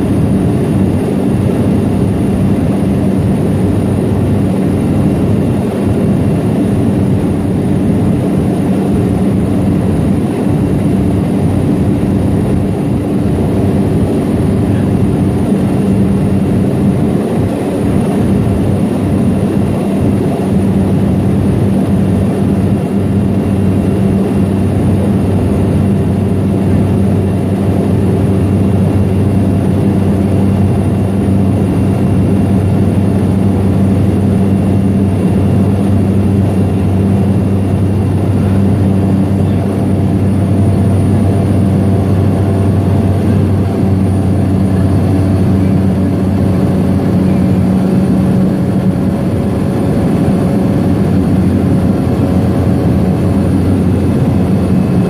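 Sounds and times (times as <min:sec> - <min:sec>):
plane engine drone in cabin: 0:00.0 - 0:55.0.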